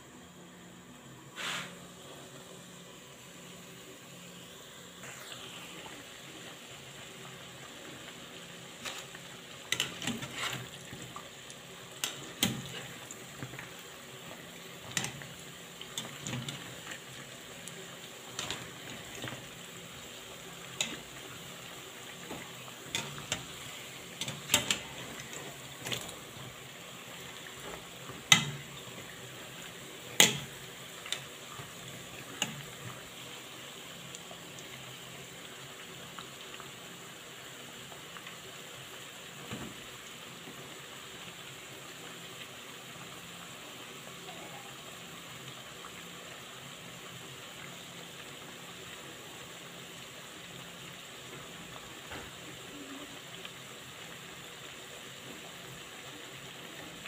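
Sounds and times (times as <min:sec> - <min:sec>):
dough deep-frying sizzle: 0:00.0 - 0:57.0.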